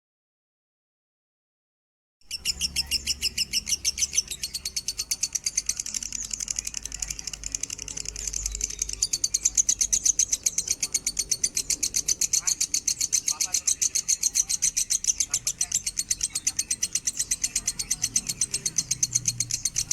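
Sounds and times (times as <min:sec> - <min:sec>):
bird rapid high chirping: 0:02.3 - 0:19.9.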